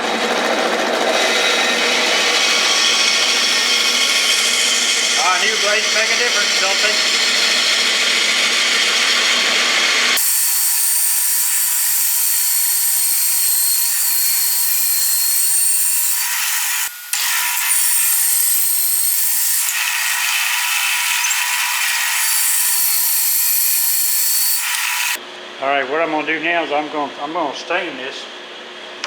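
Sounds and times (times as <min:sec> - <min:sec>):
power tool cutting wood: 0:00.0 - 0:25.2.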